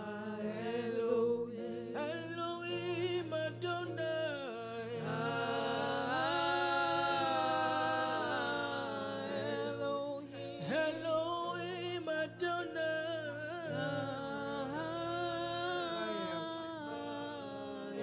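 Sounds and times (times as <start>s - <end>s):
person singing long notes: 0.0s - 18.0s.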